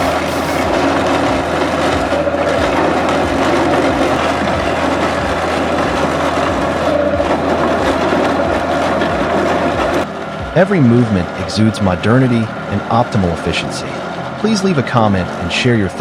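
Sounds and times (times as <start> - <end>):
bark processor running: 0.0 - 16.0.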